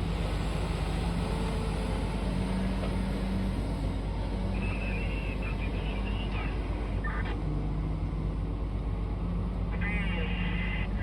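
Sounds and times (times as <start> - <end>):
diesel machinery engine drone: 0.0 - 11.0.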